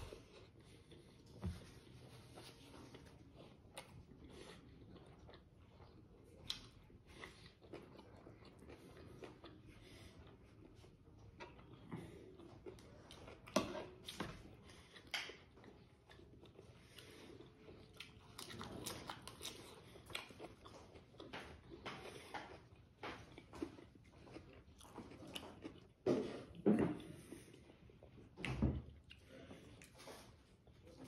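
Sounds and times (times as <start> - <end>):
person chewing with wet smacks: 0.0 - 31.0.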